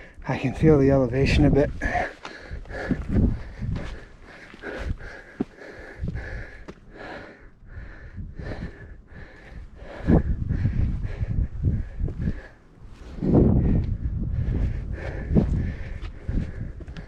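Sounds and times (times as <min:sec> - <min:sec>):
person breathing hard: 0:01.8 - 0:17.0.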